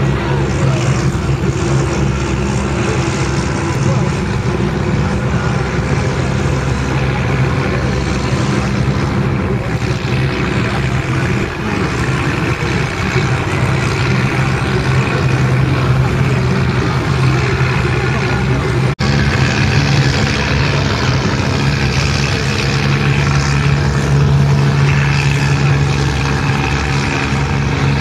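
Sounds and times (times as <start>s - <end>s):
boat engines droning: 0.0s - 28.0s.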